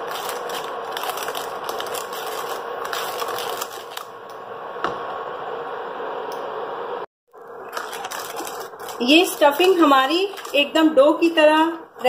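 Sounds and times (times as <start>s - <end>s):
induction cooktop hum: 0.0s - 12.0s.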